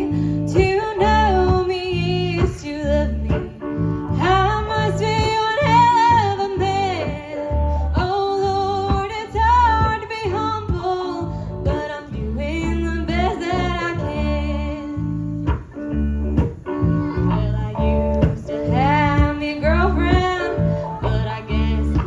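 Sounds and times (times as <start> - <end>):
live country band playing: 0.0 - 22.0
sliding lead melody with vibrato: 0.0 - 22.0.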